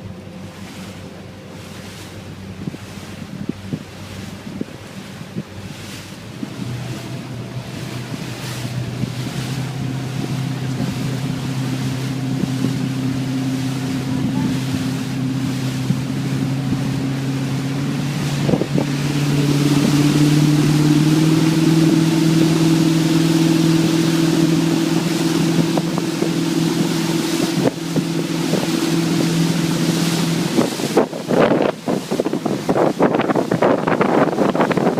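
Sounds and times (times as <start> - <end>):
motorboat engine humming: 0.0 - 34.9
wind and water rushing: 0.0 - 34.9.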